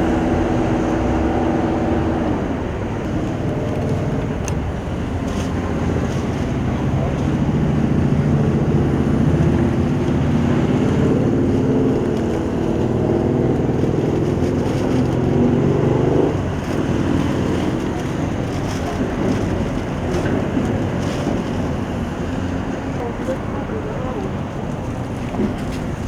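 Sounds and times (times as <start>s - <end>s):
outdoor background rumble: 0.0s - 26.0s
vehicle engine humming: 0.0s - 26.0s.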